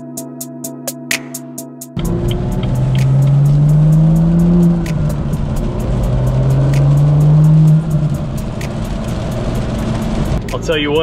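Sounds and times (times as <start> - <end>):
car engine accelerating hard: 2.0 - 11.0.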